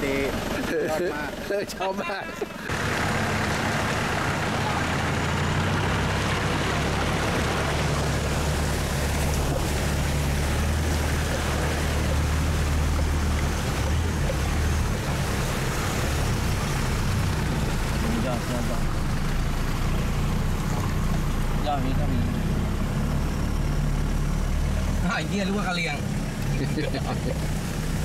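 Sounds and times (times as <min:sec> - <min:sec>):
off-road vehicle engine hum: 0:00.0 - 0:28.0
wind and road noise: 0:00.0 - 0:28.0.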